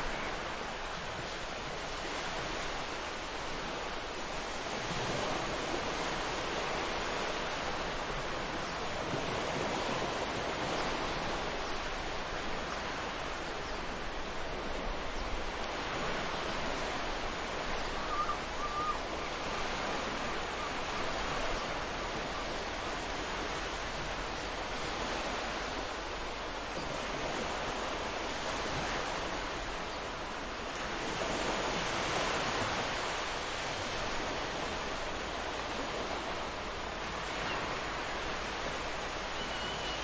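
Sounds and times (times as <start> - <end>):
ocean waves washing on sand: 0.0 - 40.0.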